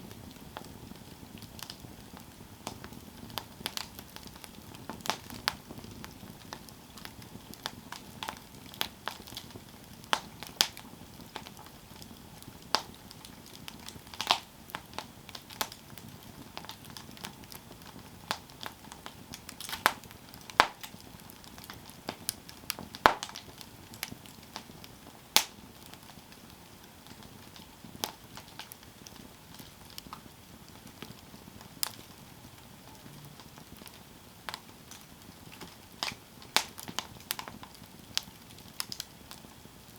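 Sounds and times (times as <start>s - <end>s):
campfire crackling and popping: 0.0s - 39.9s
faint steady hiss: 0.0s - 39.9s.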